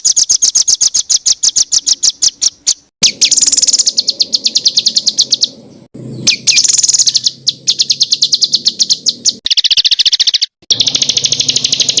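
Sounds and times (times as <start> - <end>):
songbird trilling: 0.0 - 12.0.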